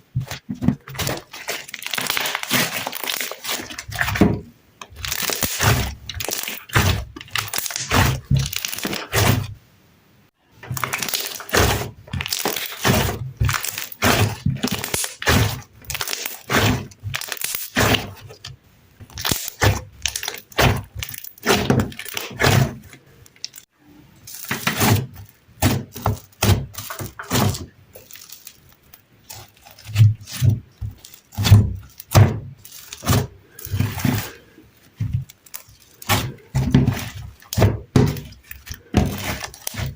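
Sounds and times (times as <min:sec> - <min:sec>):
crunchy slime squished: 0:00.0 - 0:09.6, 0:10.5 - 0:39.9.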